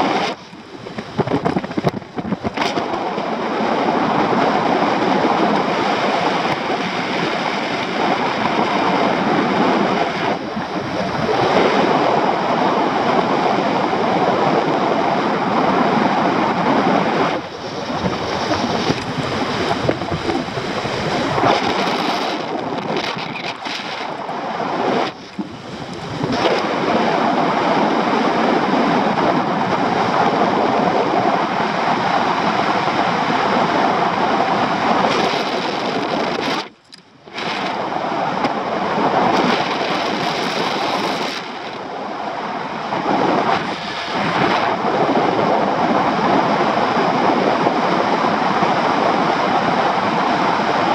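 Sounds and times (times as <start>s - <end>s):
wind noise on microphone: 0.0s - 50.9s.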